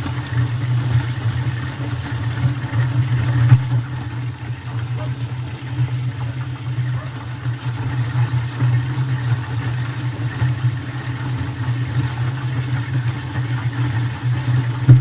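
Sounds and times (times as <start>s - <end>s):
corn sheller machine running: 0.0s - 15.0s.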